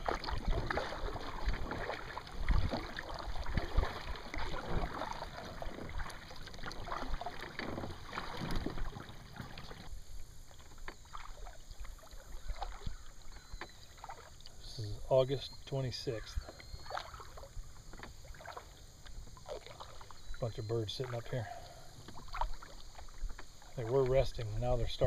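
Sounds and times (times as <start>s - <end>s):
paddle splashing water: 0.0s - 25.0s.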